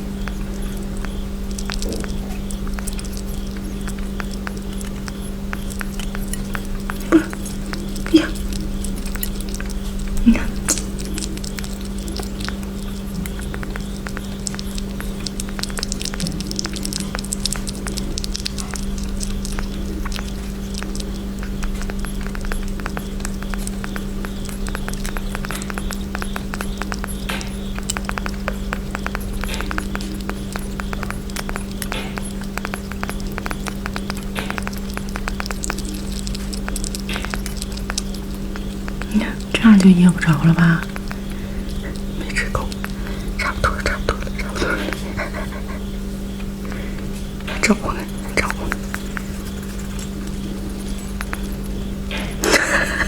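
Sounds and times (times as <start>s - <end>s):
pet crunching a snack: 0.0s - 53.0s.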